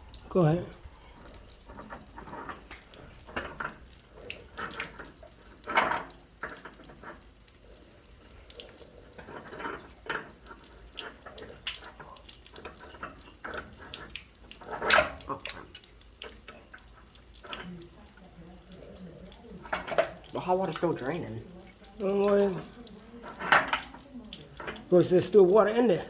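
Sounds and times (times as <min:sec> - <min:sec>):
water draining and splashing: 0:00.0 - 0:26.0.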